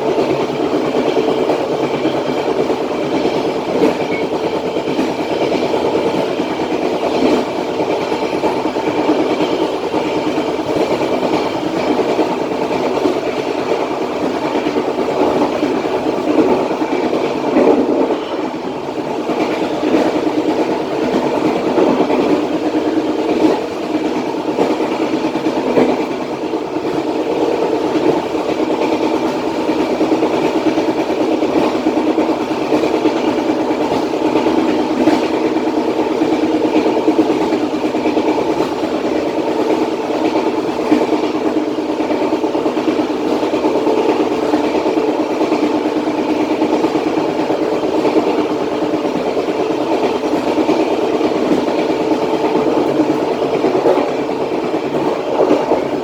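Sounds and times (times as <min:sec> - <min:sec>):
knocks of train wheels: 0:00.0 - 0:56.0
train wheels rumbling on rails: 0:00.0 - 0:56.0.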